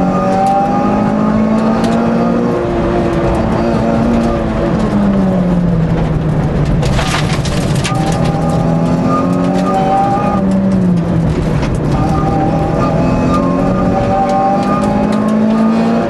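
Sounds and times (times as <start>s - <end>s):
race car engine from inside cabin: 0.0s - 16.0s.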